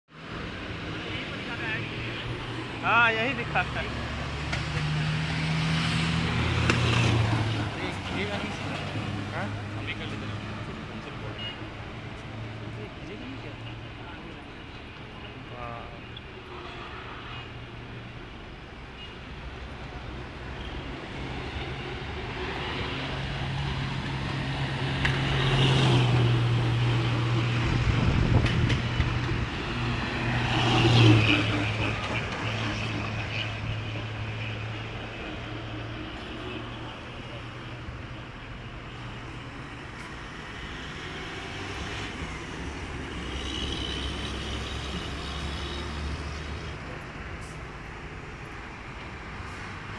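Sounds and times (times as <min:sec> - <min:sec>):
diesel trucks driving past: 0:00.2 - 0:14.5, 0:19.3 - 0:49.9.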